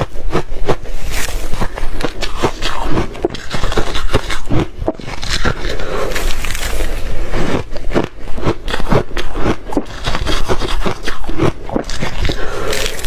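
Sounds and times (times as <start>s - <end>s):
ice being chewed: 0.0s - 13.0s.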